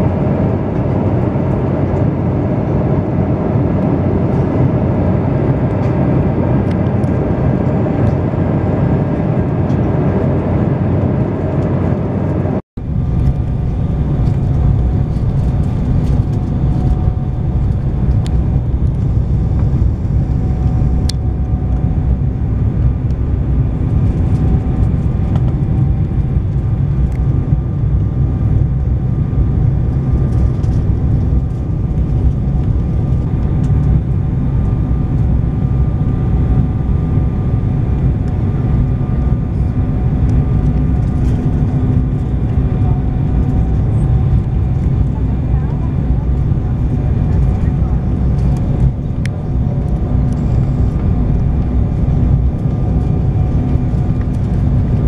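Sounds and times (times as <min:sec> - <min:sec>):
airliner cabin engine noise: 0:00.0 - 0:55.0.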